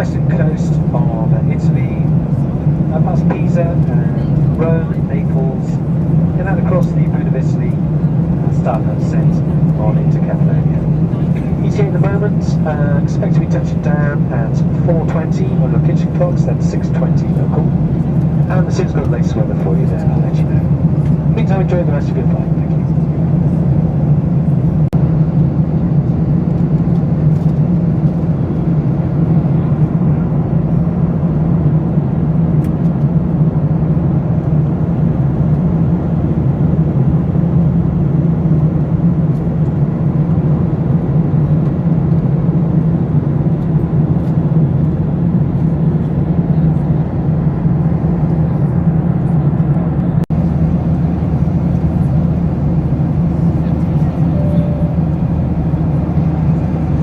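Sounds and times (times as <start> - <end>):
aircraft cabin drone: 0.0 - 57.0.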